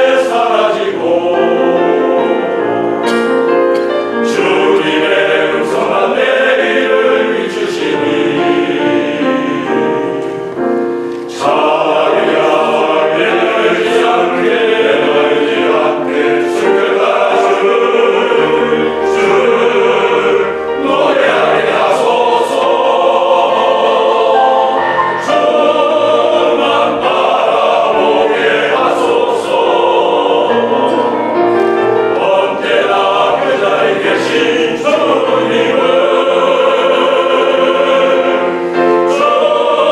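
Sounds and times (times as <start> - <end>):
vocal ensemble singing in harmony: 0.0 - 39.9.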